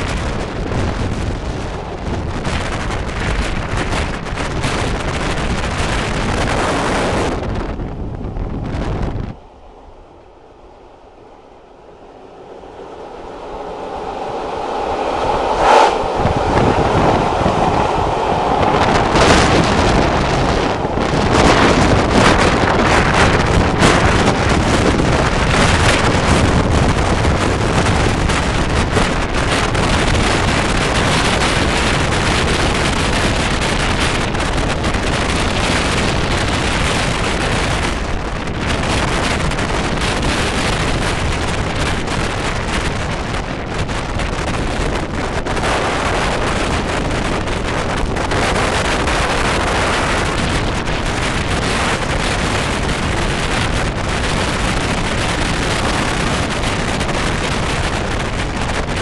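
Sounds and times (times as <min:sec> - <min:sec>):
train running noise: 0:00.0 - 0:59.0
wind buffeting microphone: 0:00.0 - 0:59.0.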